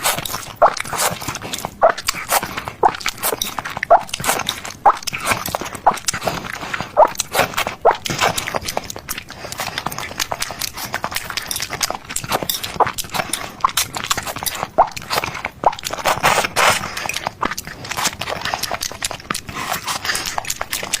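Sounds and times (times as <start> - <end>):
chewing and crunching food: 0.0 - 21.0.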